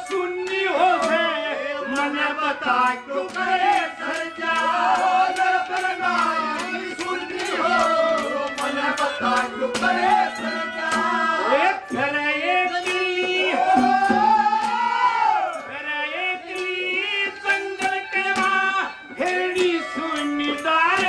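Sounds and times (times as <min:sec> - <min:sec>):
man singing over loudspeakers: 0:00.0 - 0:21.0
steady drum beat: 0:01.9 - 0:15.7, 0:16.5 - 0:21.0.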